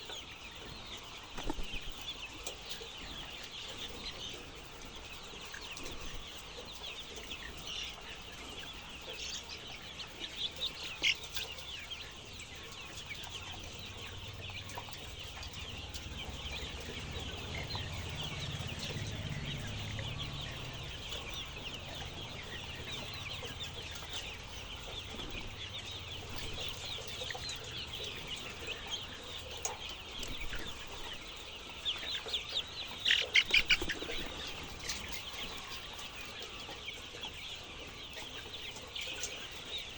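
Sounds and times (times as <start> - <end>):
flock of chickens clucking: 0.0 - 39.9.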